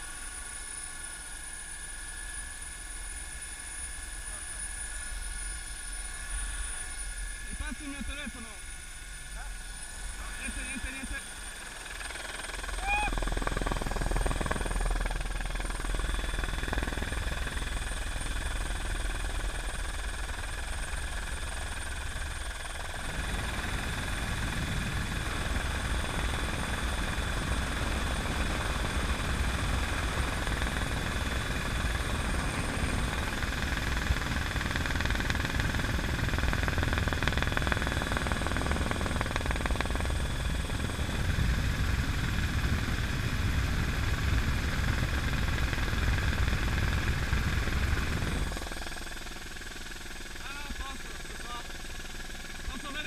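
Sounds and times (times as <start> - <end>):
helicopter rotor and engine rumble: 0.0 - 53.0
high steady whine: 0.0 - 53.0.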